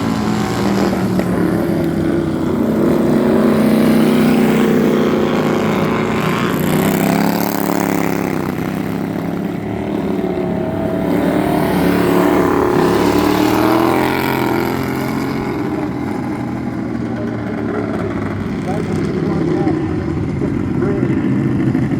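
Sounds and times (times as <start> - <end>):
lawn mower engines revving: 0.0 - 21.9.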